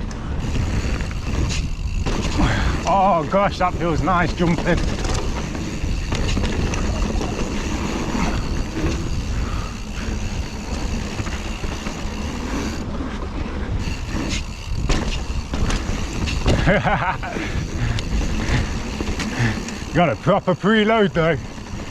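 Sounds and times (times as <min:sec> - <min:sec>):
bike rattling clicks: 0:00.0 - 0:21.9
tyres rumbling on dirt: 0:00.0 - 0:21.9.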